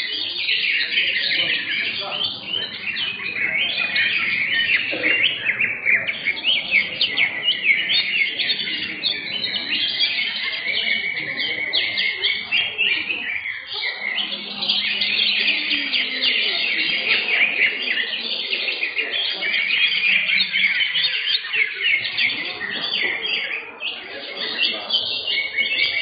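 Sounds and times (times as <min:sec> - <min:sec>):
birds singing rapid chirps: 0:00.0 - 0:26.0.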